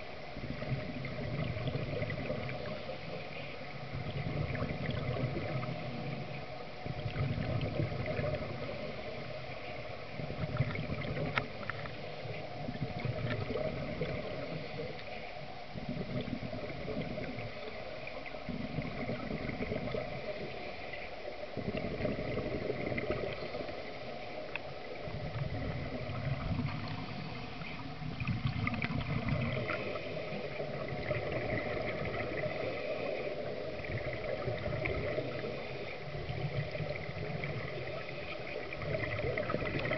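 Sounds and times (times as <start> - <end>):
constant hiss: 0.0 - 39.9
exhaled bubbles underwater: 0.0 - 39.9.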